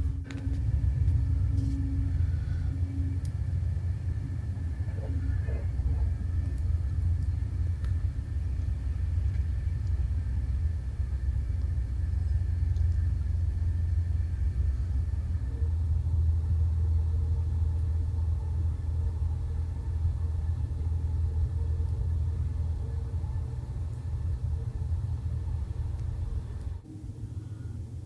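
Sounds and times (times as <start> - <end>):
faint steady hum: 0.0 - 28.0
train rumbling on track: 0.0 - 28.0.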